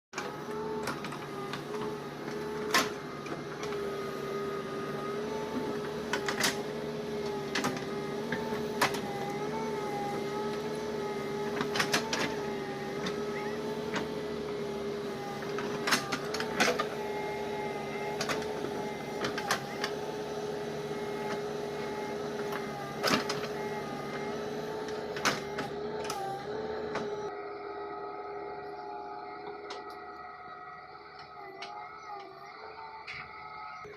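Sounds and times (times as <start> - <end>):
motor whining: 0.2 - 33.9.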